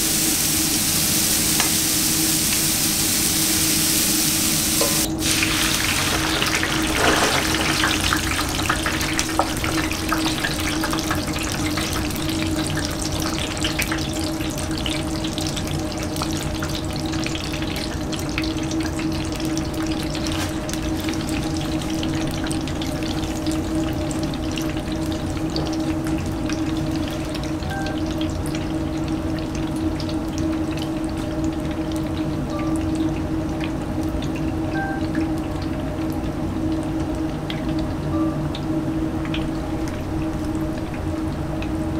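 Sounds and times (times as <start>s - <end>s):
baskets sizzling into oil: 0.0s - 41.9s
oil bubbling and crackling: 0.0s - 41.9s
steady hum: 0.0s - 41.9s.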